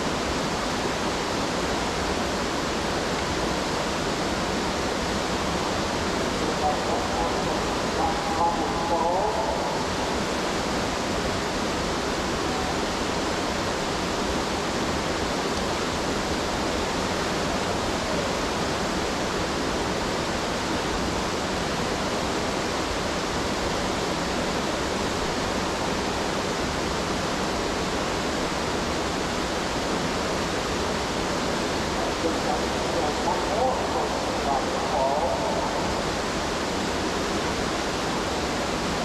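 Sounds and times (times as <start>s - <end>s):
whitewater rushing: 0.0s - 39.0s.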